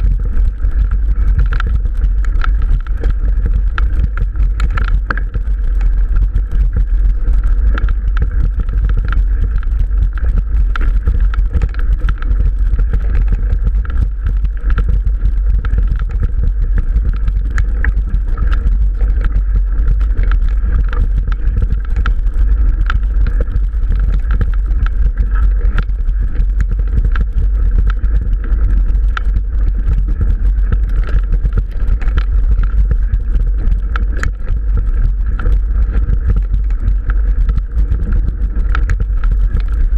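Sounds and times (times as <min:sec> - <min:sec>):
bike rattling and clicking: 0:00.0 - 0:39.9
wind rumble on microphone: 0:00.0 - 0:39.9.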